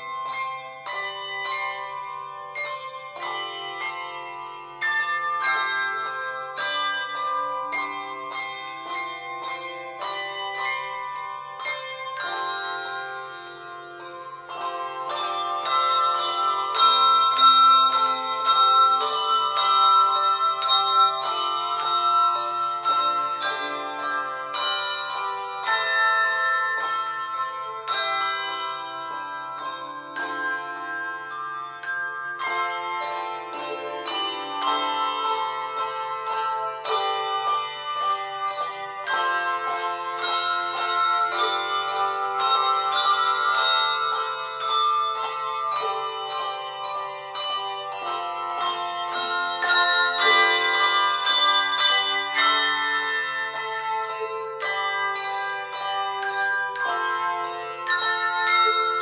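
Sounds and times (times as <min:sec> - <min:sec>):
handbells playing a tune: 0:00.0 - 0:59.0.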